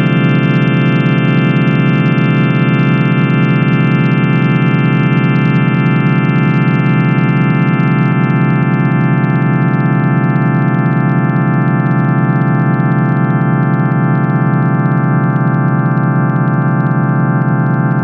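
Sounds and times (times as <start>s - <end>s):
synthesized sine tone drone: 0.0s - 18.0s.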